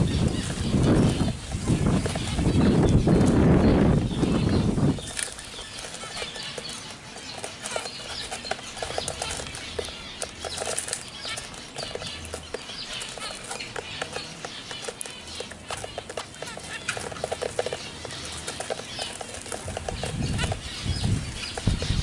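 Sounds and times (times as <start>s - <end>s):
finch calls: 0.0s - 22.0s
finches pecking in grit: 0.0s - 22.0s
wing flutters: 0.0s - 22.0s.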